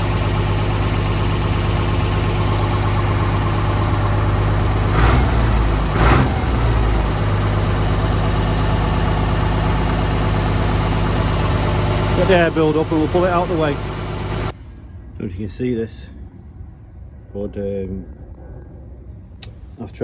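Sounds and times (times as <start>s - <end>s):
diesel truck engine idling: 0.0s - 17.4s.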